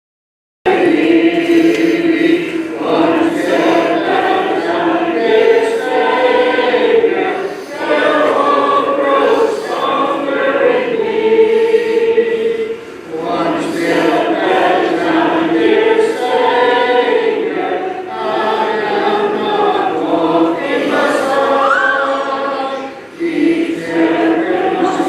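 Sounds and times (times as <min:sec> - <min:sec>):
congregation singing a hymn: 0:00.7 - 0:25.0.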